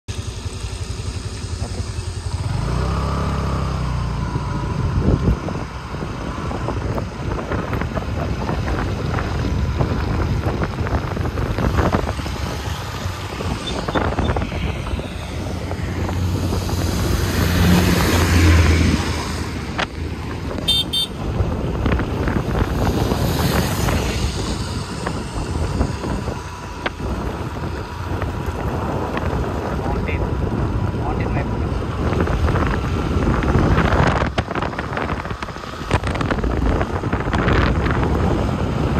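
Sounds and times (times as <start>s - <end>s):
wind and tyre noise: 0.0s - 38.9s
motorcycle engine running: 0.1s - 38.9s
wind buffeting microphone: 0.9s - 38.9s.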